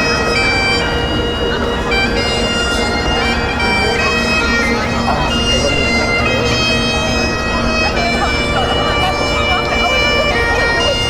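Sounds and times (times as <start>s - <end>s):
bagpipe playing a tune: 0.0s - 11.0s
people talking faintly: 0.0s - 11.0s.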